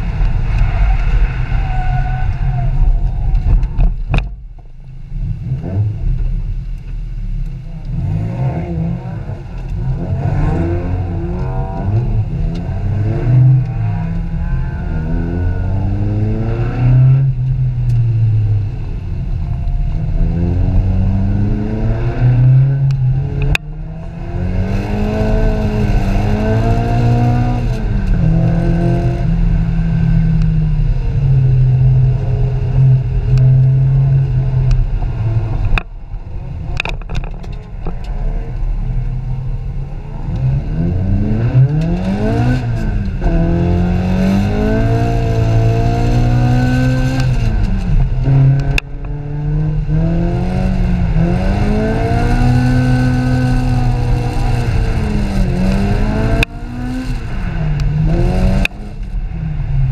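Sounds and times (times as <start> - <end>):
car engine revving: 5.1 - 59.9.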